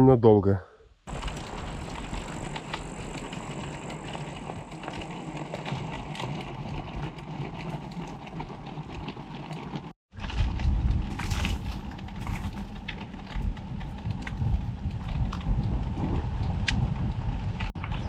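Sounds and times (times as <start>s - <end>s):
bike tyres churning through mud: 1.1s - 18.0s
crackle of small clicks: 1.1s - 18.0s
wind rumble on microphone: 1.1s - 18.0s.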